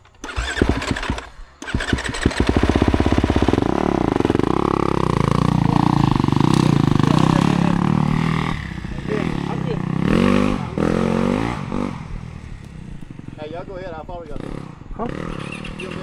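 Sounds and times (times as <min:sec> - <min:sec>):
dirt bike engine starting: 0:00.0 - 0:16.0.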